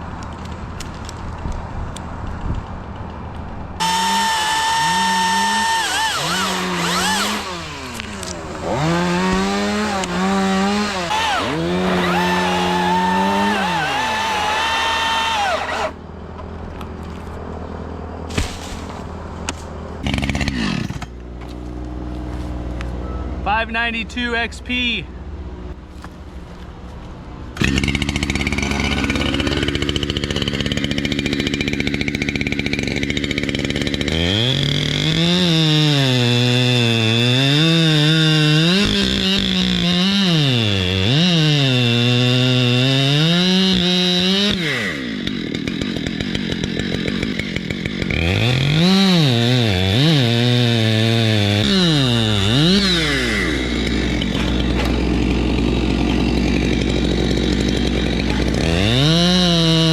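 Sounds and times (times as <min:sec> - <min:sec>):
chainsaw cutting wood: 0:03.8 - 0:16.0, 0:18.3 - 0:22.7, 0:27.5 - 0:59.9.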